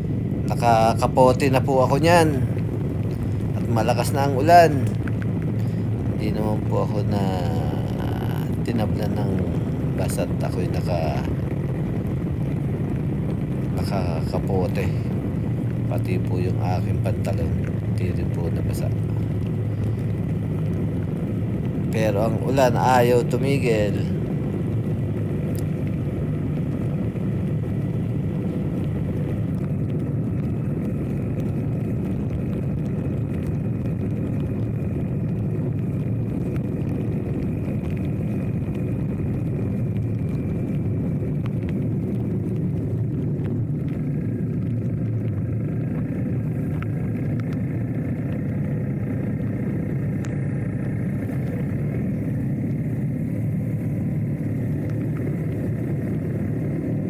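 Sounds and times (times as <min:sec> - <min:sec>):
motorcycle engine drone: 0:00.0 - 0:57.0
road noise in rain: 0:00.0 - 0:57.0
wind noise: 0:00.0 - 0:57.0.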